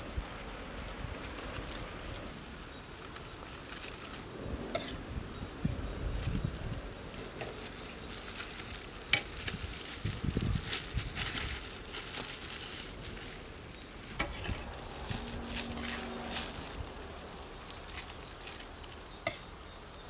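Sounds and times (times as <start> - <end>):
food packets crinkling: 0.4 - 4.6, 6.0 - 20.0.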